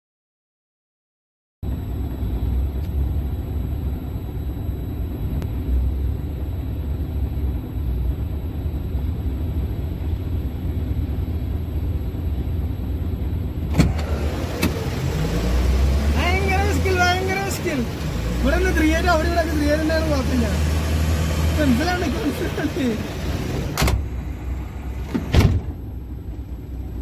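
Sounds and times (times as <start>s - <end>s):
diesel engine rumbling: 1.6s - 27.0s.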